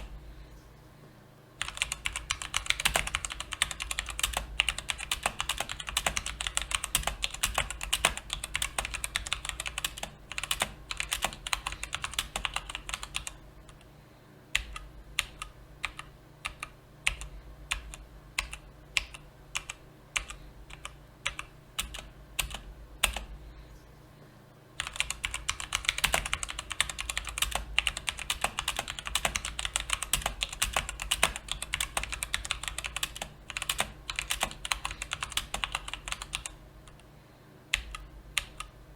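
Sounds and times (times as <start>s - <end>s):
mechanical keyboard typing: 1.6s - 13.8s, 14.6s - 23.3s, 24.8s - 37.0s, 37.7s - 38.7s.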